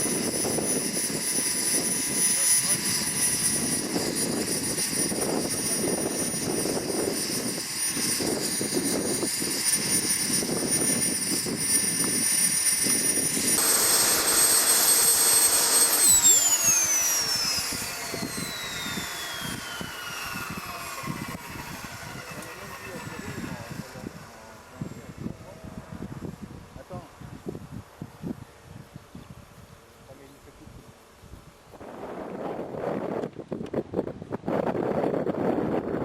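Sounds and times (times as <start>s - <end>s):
model gas turbine whining: 0.0s - 36.0s.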